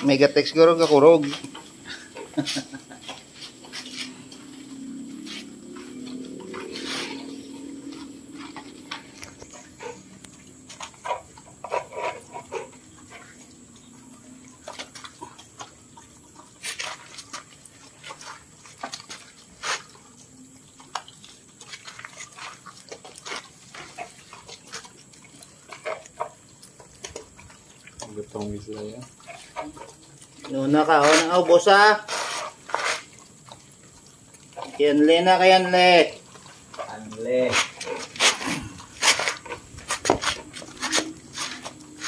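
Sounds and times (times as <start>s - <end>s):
dogs chewing and lapping: 0.0s - 42.0s.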